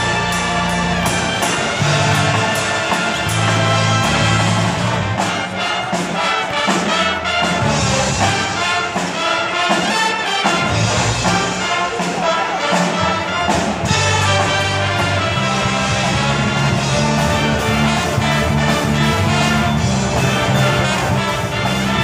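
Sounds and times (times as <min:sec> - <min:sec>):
brass band playing: 0:00.0 - 0:22.0
drum kit beat: 0:00.0 - 0:22.0.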